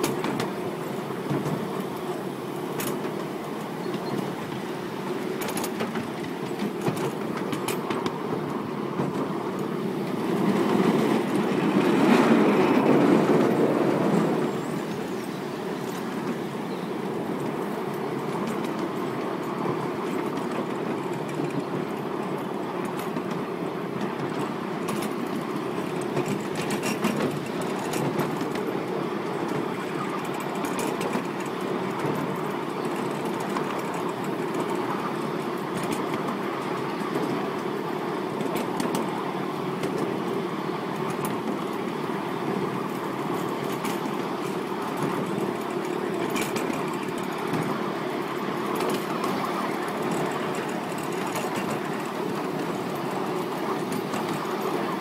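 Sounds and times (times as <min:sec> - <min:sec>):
wheels rumbling on rails: 0:00.0 - 0:55.0.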